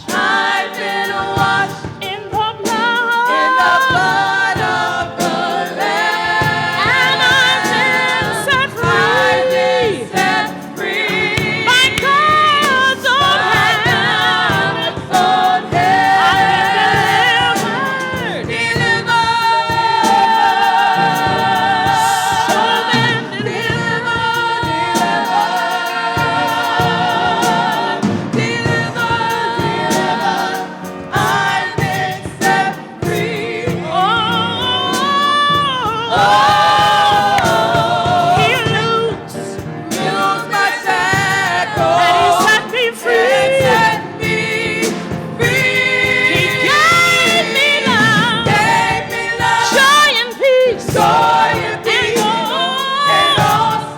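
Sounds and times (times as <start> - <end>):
gospel choir singing: 0.0 - 53.9.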